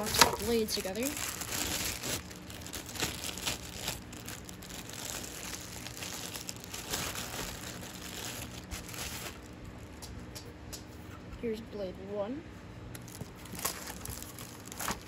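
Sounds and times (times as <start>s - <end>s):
plastic packaging crinkling: 0.0s - 10.2s, 12.9s - 15.0s.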